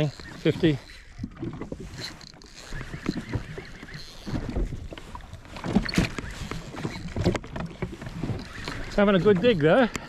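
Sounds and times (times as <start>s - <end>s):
small waves slapping against a hull: 0.0s - 10.0s.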